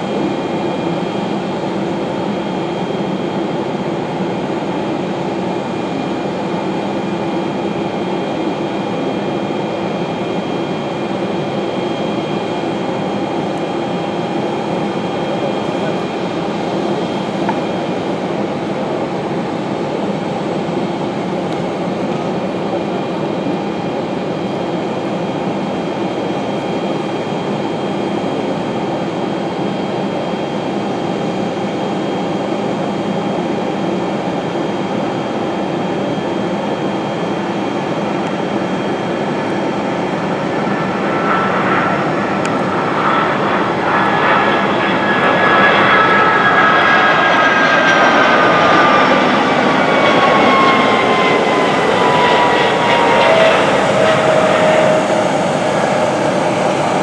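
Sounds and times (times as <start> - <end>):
jet engine whine falling in pitch: 0.0 - 57.0
jet engines rumbling: 0.0 - 57.0.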